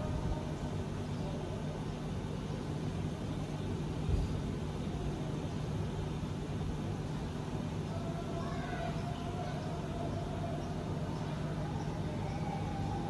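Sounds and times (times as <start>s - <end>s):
generator humming with air rush: 0.0s - 13.0s.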